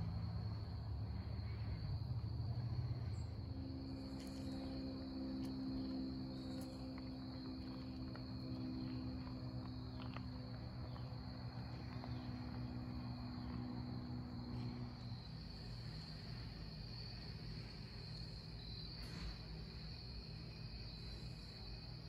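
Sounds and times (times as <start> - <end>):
insects trilling: 0.0 - 22.0
low steady hum: 0.0 - 22.0.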